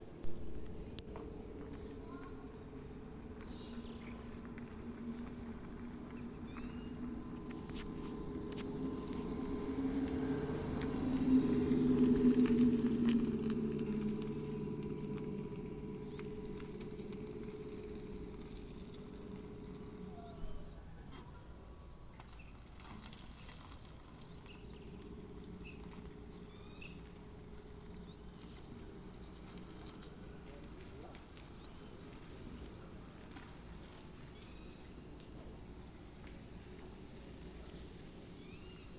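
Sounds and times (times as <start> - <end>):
electric car warning hum: 0.0 - 38.9.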